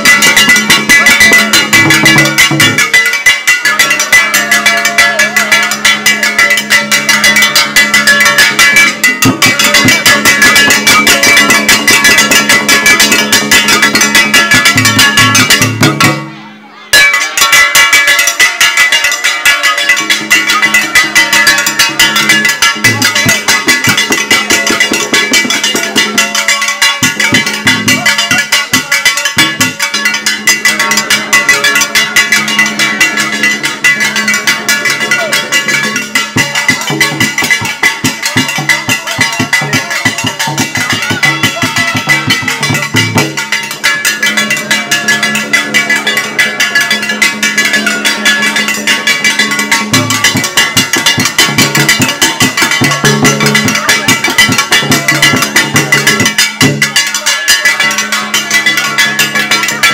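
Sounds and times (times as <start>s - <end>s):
rapid dense drumming: 0.0s - 59.9s.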